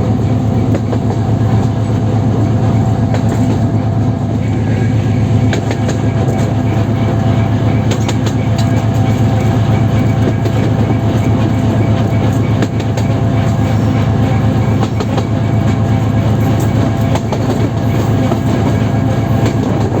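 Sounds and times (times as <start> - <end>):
wheels clacking over rail joints: 0.0 - 4.8, 5.4 - 20.0
diesel engine drone: 0.0 - 20.0.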